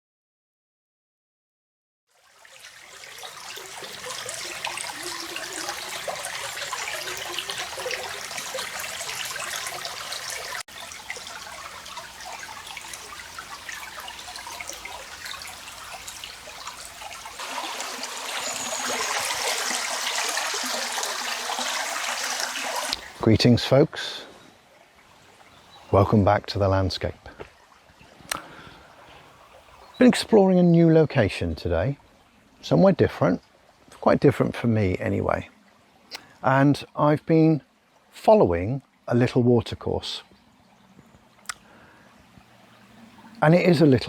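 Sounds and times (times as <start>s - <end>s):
stream trickling over rocks: 2.1s - 44.0s.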